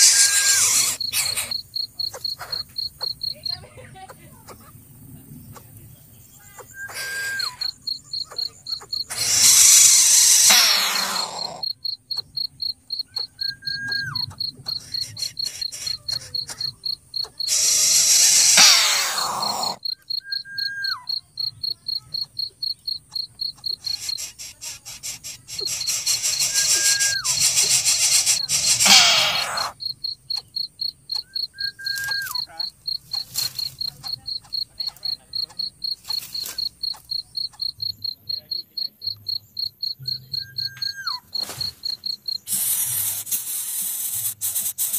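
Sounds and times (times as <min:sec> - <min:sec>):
insects chirping: 0:00.0 - 0:44.9.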